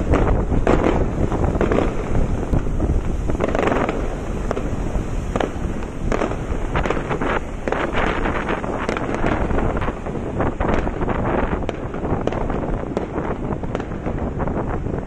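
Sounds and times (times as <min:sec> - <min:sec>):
sharp cracks: 0:00.0 - 0:14.0
wind buffeting microphone: 0:00.0 - 0:15.0.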